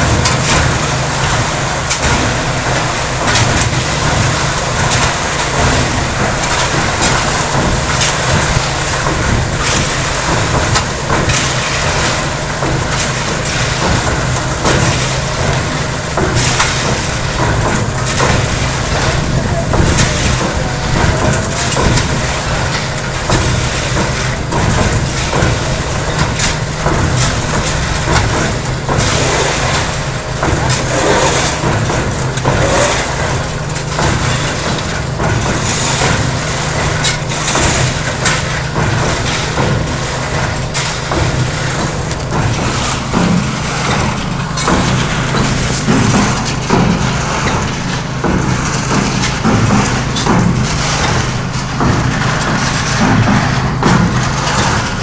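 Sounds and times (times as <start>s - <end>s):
concrete mixer motor drone: 0.0s - 55.0s
gravel tumbling in a drum: 0.0s - 55.0s.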